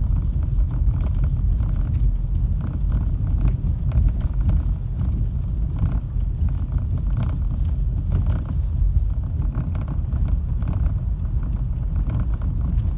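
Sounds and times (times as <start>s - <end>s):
car running low rumble: 0.0s - 12.9s.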